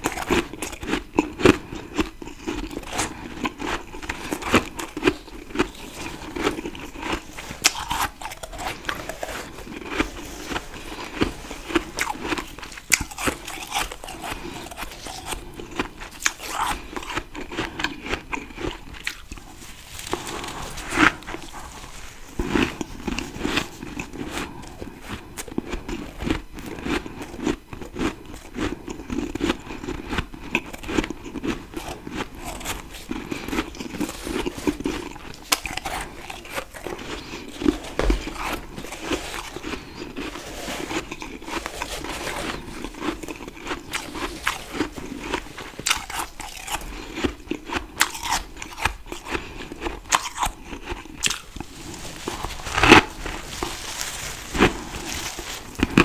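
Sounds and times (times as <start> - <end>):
crunching and chewing frost: 0.0 - 56.0.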